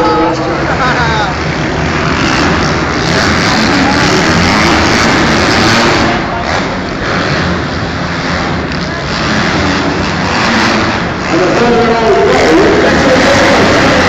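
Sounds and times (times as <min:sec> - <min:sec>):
motocross motorcycle engines: 0:00.0 - 0:14.0.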